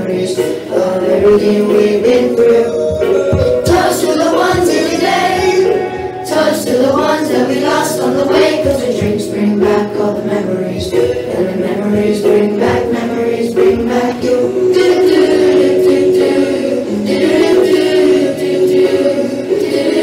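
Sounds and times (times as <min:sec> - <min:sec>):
choir singing long notes: 0:00.0 - 0:20.0.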